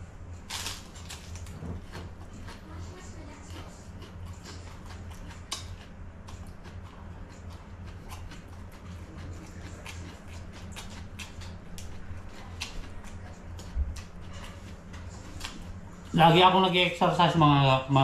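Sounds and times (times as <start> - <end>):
steady low hum: 0.0 - 18.0
person chewing crisp lettuce: 0.3 - 16.8.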